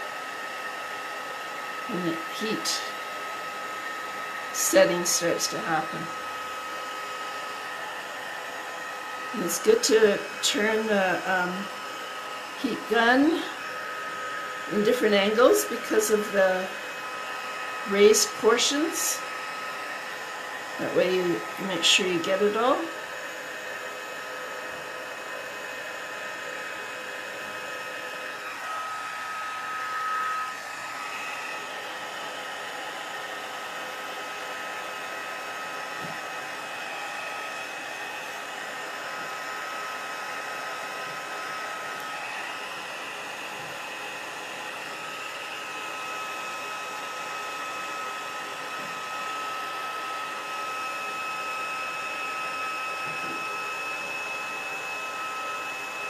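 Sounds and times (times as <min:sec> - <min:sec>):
heat gun whining and blowing air: 0:00.0 - 0:56.0.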